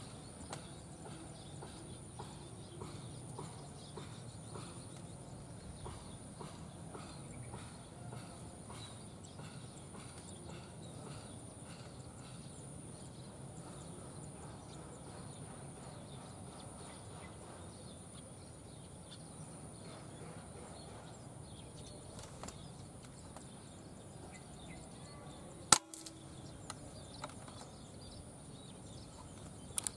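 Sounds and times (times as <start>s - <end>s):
outdoor background: 0.0s - 29.9s.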